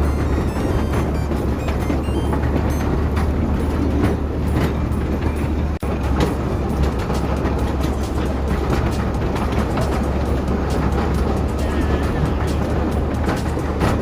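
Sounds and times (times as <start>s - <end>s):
train rumbling on track: 0.0s - 14.0s
wheels clicking and knocking: 0.0s - 14.0s.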